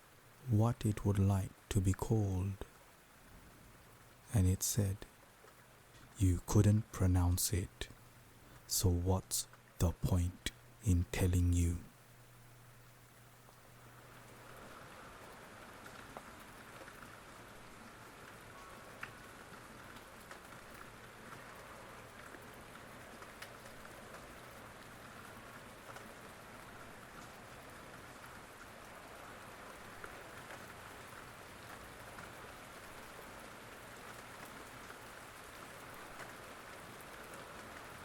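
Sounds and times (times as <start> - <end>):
rain pattering: 0.0 - 38.0.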